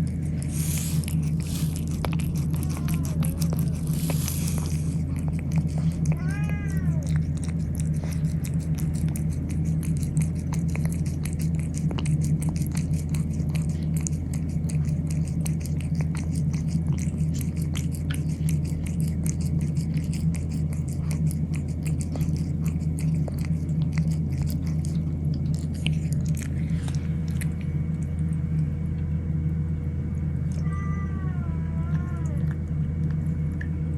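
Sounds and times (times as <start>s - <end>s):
cats chewing food: 0.0s - 33.9s
steady low hum: 0.0s - 33.9s.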